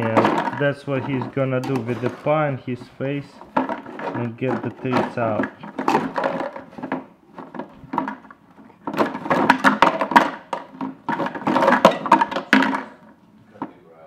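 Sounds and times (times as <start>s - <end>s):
treats rattling in bottles: 0.0s - 13.7s
plastic bottles clattering: 0.0s - 13.8s.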